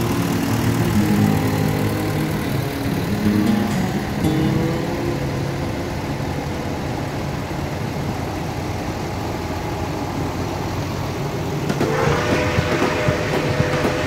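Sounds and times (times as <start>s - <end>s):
high engine note: 0.0s - 14.0s
tractor diesel engines passing: 0.0s - 14.0s.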